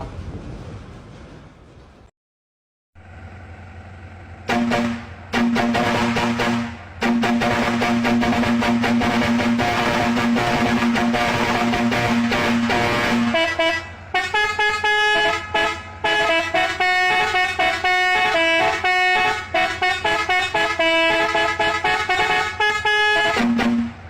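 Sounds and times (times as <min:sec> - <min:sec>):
vehicle air horn playing a tune: 0:04.5 - 0:24.0.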